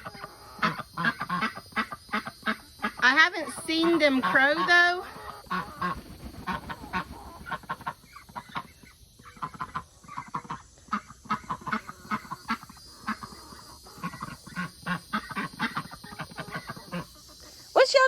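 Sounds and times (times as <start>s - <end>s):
young chickens clucking: 0.0s - 18.0s.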